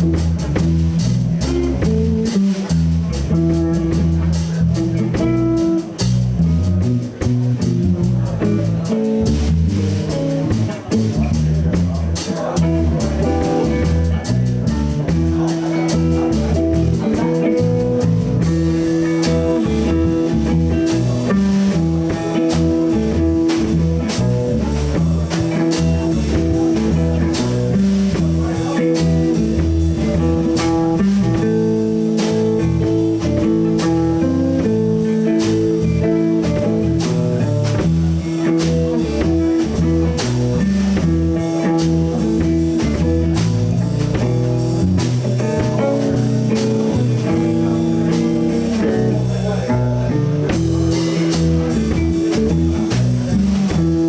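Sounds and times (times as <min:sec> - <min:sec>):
bass guitar: 0:00.0 - 0:54.0
drum kit beat: 0:00.0 - 0:54.0
guitar: 0:00.0 - 0:54.0.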